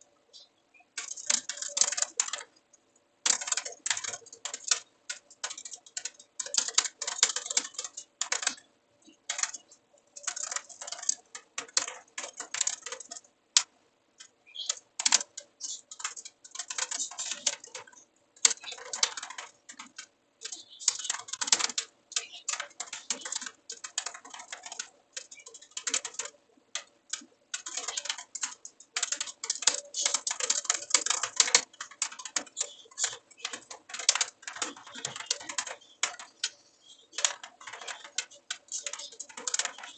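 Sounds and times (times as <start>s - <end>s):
computer keyboard typing: 1.0s - 2.6s, 3.2s - 39.9s.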